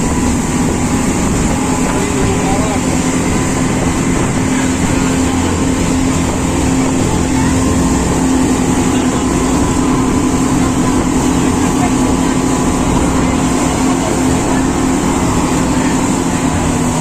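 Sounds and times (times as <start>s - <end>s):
speedboat engines droning: 0.0s - 17.0s.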